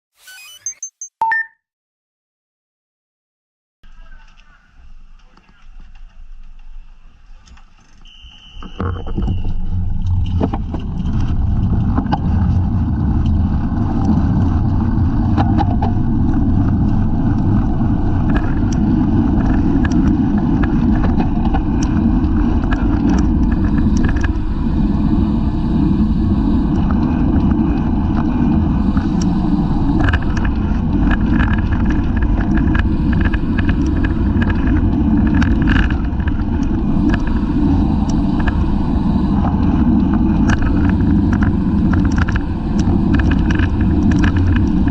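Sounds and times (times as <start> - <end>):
road rumble: 3.8 - 44.9
wind rushing over microphone: 8.8 - 44.9.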